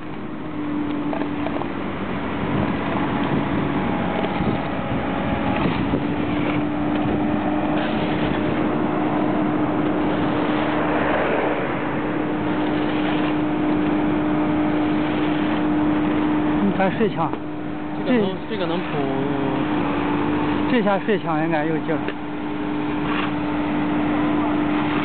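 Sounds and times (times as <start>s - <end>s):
road machine engine running: 0.0s - 25.0s.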